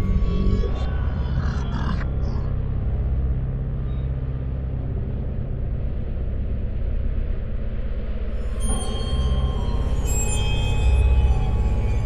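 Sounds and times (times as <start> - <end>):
deep rumbling drone: 0.0 - 12.0.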